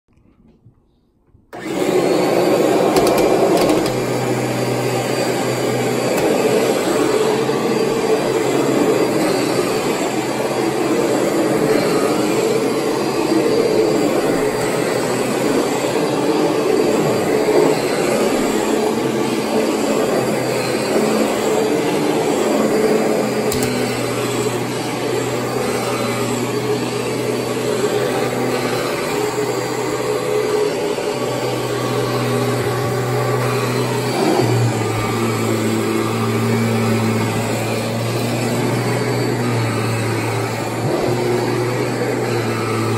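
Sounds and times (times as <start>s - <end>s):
vacuum cleaner motor hum: 1.5s - 42.9s
vacuum cleaner switched on: 1.5s - 42.9s.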